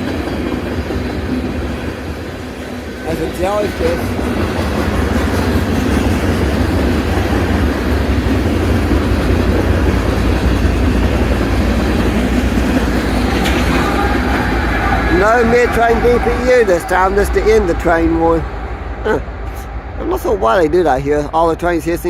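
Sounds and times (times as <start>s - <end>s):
steel wheels rumbling on rails: 0.0s - 22.0s.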